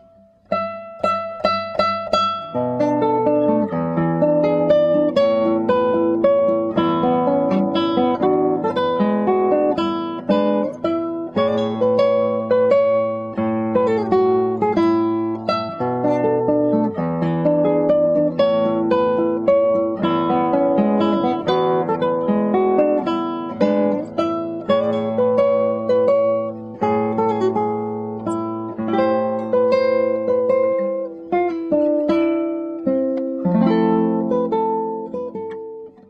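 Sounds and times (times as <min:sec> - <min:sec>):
acoustic guitar fingerpicking: 0:00.0 - 0:36.0.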